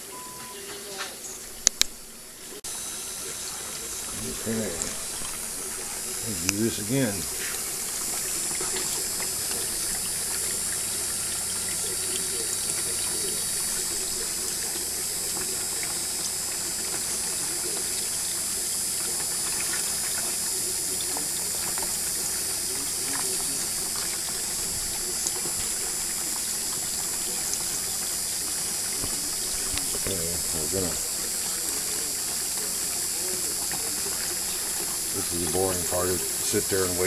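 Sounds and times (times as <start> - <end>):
water running through sluice box: 2.6 - 37.0.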